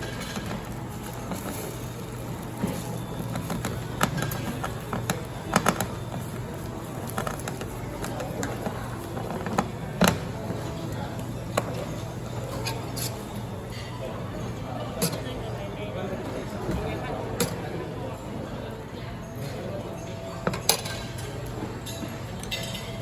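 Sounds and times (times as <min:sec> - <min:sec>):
cooking utensils clinking: 0:00.0 - 0:15.6, 0:19.4 - 0:23.0.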